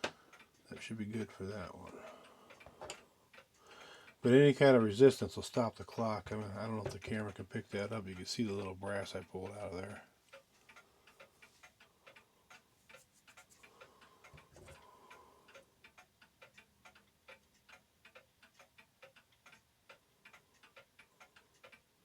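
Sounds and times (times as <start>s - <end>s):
clock ticking: 0.0s - 22.0s.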